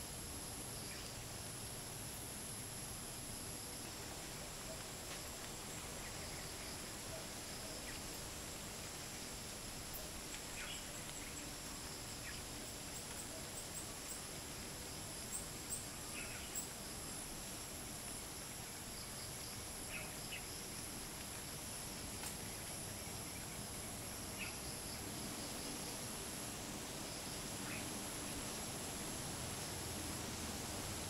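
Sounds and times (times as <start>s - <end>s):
crickets and cicadas chorus: 0.0s - 31.0s
light wind hiss: 0.0s - 31.0s.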